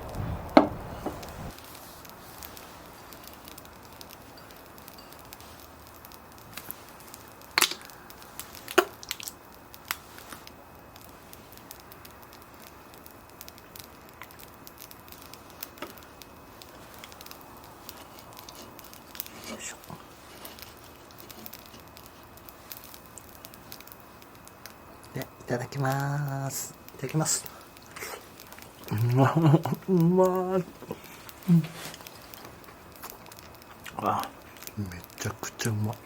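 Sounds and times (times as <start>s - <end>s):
wood fire crackling and popping: 0.0s - 36.0s.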